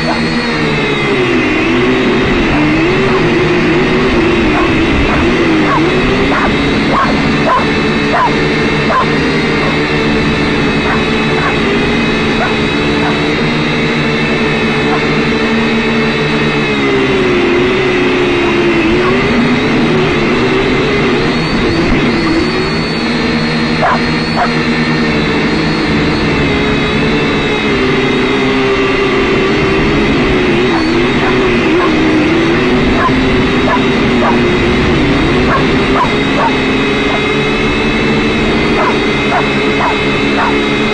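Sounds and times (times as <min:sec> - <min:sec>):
drone rotor motors whining: 0:00.0 - 0:40.9.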